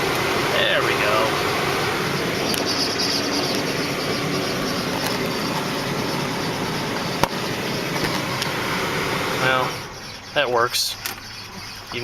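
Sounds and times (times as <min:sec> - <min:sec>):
car ventilation blower rushing: 0:00.0 - 0:11.9
engine running: 0:00.0 - 0:12.0.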